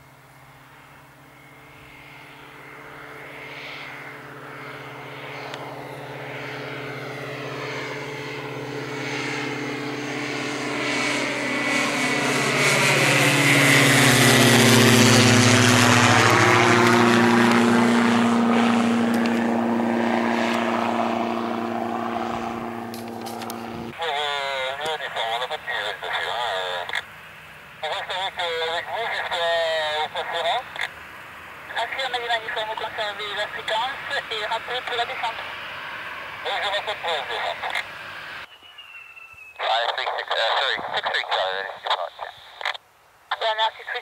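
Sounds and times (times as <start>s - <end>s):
propeller aircraft passing overhead: 0.0s - 42.0s.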